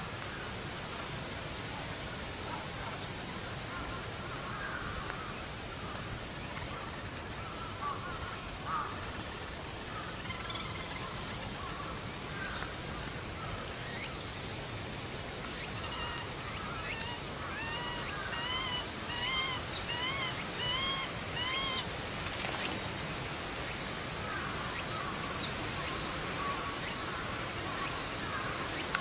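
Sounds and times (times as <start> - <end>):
outdoor noise bed: 0.0 - 29.0.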